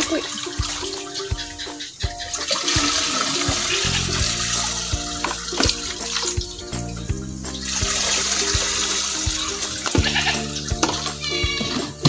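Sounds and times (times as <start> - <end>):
dipper knocking: 0.0 - 12.0
water pouring into plastic tank: 0.0 - 12.0.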